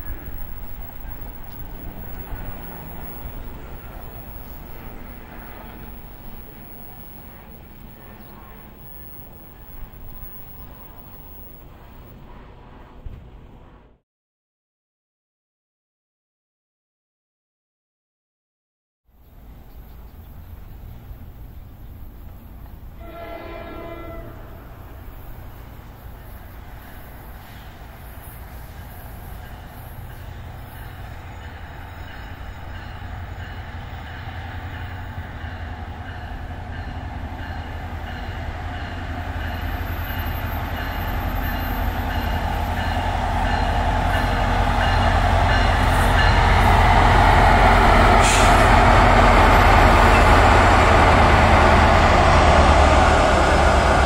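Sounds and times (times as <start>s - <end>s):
passenger train approaching: 0.0s - 14.0s, 19.1s - 54.0s
wheels rushing on rails: 0.0s - 14.0s, 19.2s - 54.0s.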